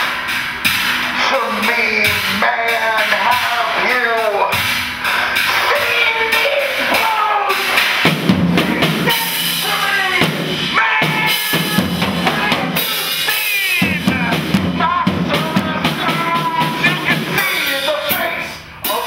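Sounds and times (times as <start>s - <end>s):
music with driving drum beat: 0.0s - 19.0s.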